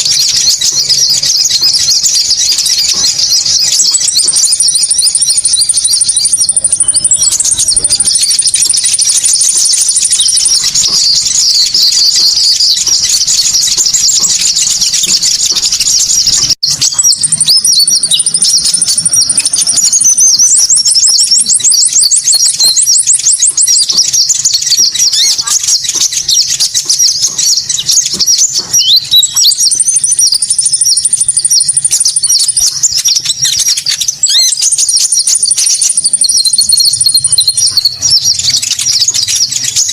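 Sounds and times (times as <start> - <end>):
songbird chattering warble: 0.0 - 39.9.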